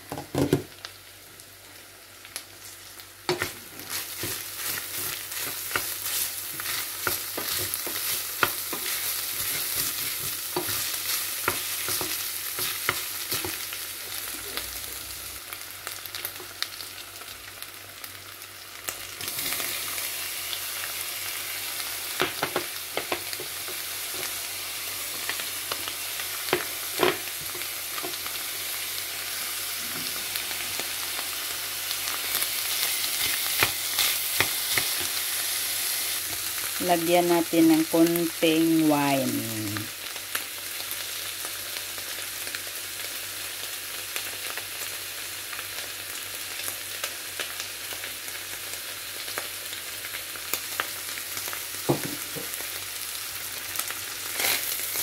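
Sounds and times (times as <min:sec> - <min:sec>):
meat and onion sizzling in pot: 0:00.0 - 0:55.0.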